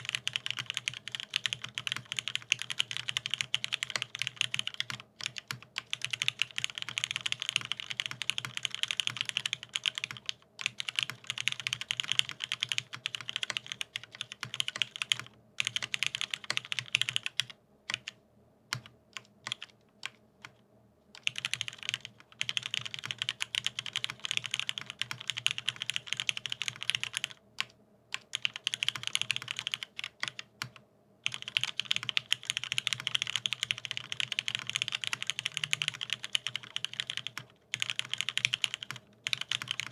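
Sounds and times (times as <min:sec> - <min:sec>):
fast mechanical keyboard typing: 0:00.0 - 0:20.2, 0:21.2 - 0:39.9.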